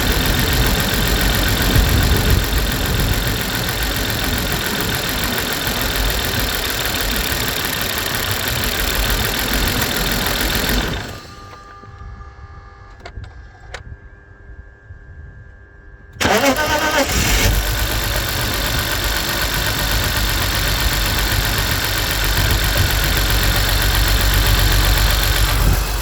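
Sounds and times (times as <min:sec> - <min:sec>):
car engine running: 0:00.0 - 0:11.5, 0:16.2 - 0:26.0
starter cranking engine: 0:00.0 - 0:11.6, 0:16.2 - 0:26.0.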